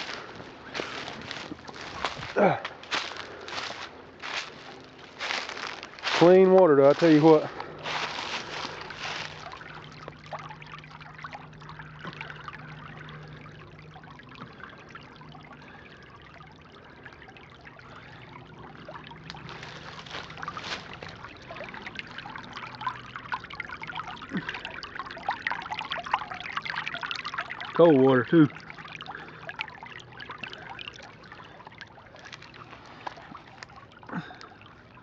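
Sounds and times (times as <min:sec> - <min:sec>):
creek water trickling: 0:00.0 - 0:35.0.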